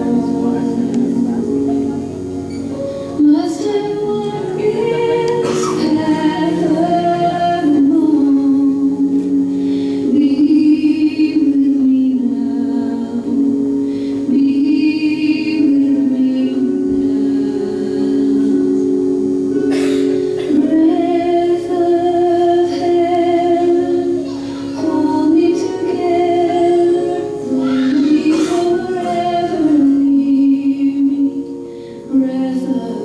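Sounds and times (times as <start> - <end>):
voices singing long notes: 0.0 - 33.0.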